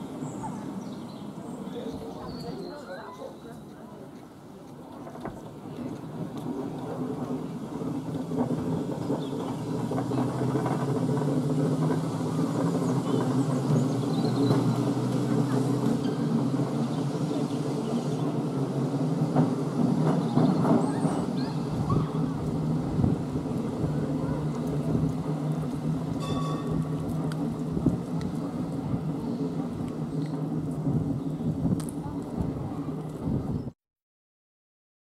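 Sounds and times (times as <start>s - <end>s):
tram motor humming: 0.0s - 33.6s
wheels clicking on rails: 0.0s - 33.6s.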